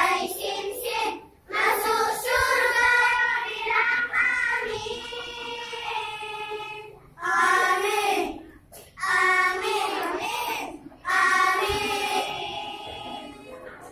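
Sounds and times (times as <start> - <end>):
children's choir singing: 0.0 - 13.9.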